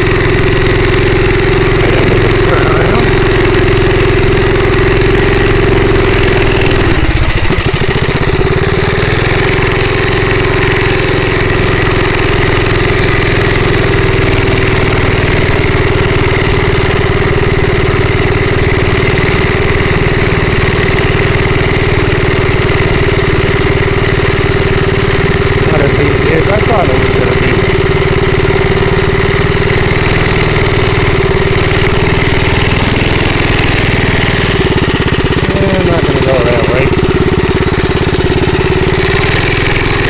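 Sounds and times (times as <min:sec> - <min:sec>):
minibike engine running: 0:00.0 - 0:40.0.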